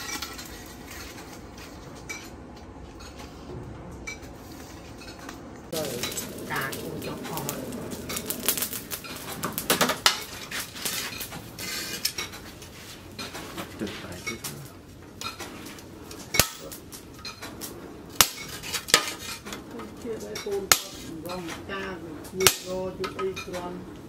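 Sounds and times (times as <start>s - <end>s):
metal and charcoal clinking: 0.0s - 24.0s.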